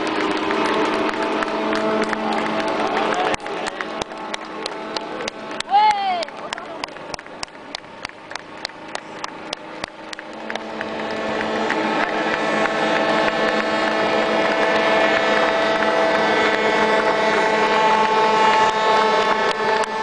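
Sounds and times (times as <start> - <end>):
ship engine droning: 0.0 - 20.0.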